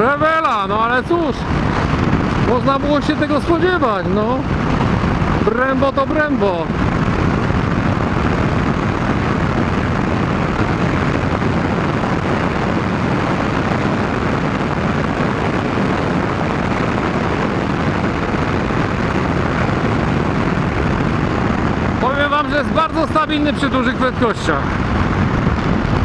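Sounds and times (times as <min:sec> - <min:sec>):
motorcycle engine at high speed: 0:00.0 - 0:26.0
wind rushing: 0:00.0 - 0:26.0.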